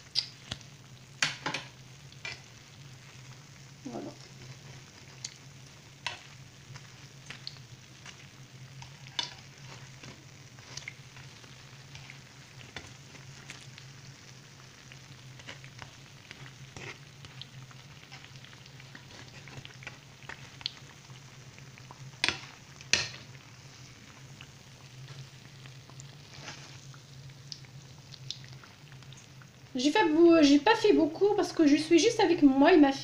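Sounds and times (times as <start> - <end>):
food sizzling in oil: 0.0 - 33.0.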